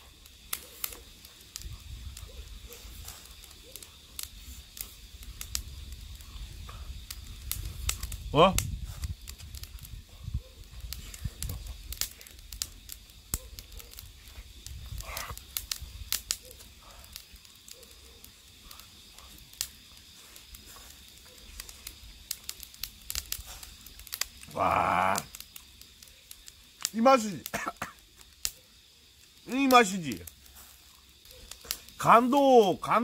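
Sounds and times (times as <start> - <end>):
fish grilling crackles and pops: 0.0 - 33.0.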